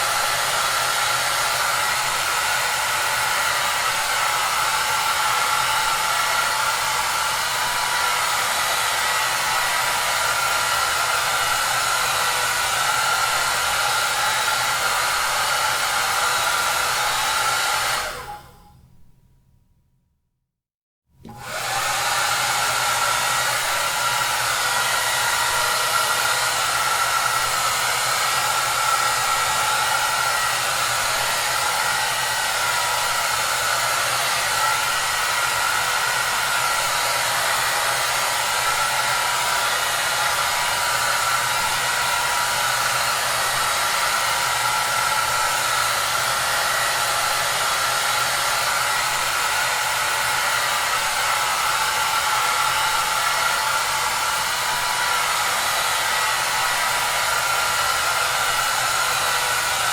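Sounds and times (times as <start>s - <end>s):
hair dryer running: 0.0s - 18.7s, 21.2s - 59.9s.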